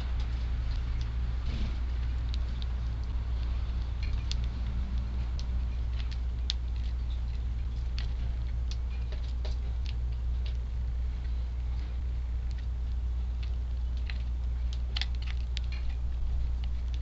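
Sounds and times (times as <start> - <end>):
sparrows chirping: 0.0 - 16.1
steady low rumble: 0.0 - 17.0.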